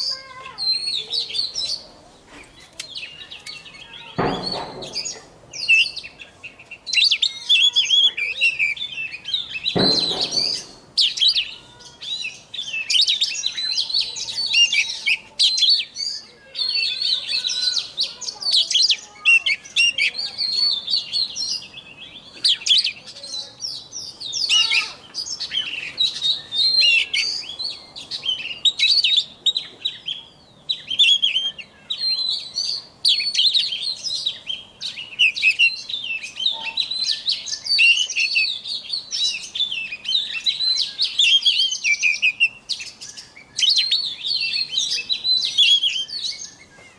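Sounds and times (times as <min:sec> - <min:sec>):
bird singing whistled phrases: 0:02.8 - 0:46.9.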